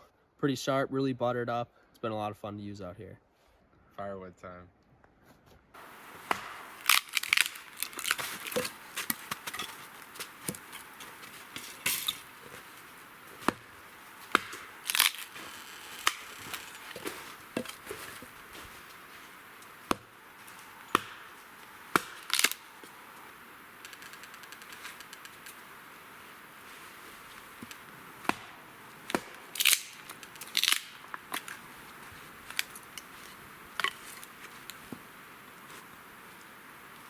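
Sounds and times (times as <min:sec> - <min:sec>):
hatchet chopping firewood: 0:05.8 - 0:36.9.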